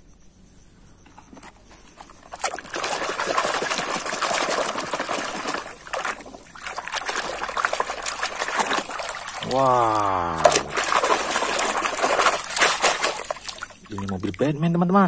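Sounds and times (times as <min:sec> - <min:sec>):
water sloshing in a basin: 0:01.2 - 0:14.9.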